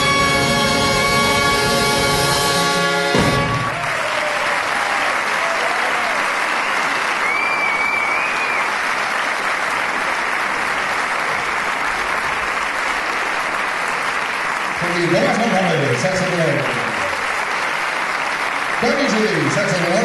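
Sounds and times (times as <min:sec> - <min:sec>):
audience applauding: 0:03.1 - 0:20.0.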